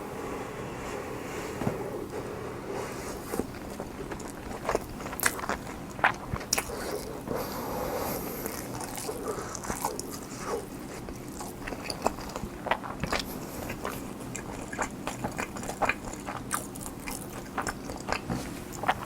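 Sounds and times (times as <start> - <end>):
close-up chewing: 3.1 - 19.0.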